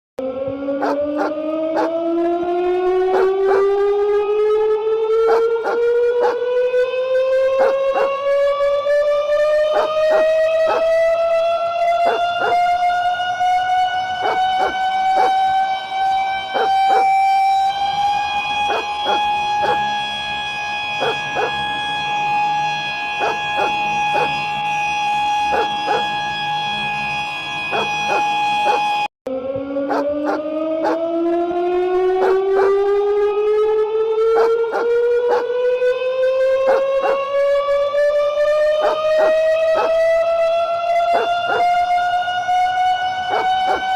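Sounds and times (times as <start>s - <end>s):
warning siren tone: 0.2s - 43.9s.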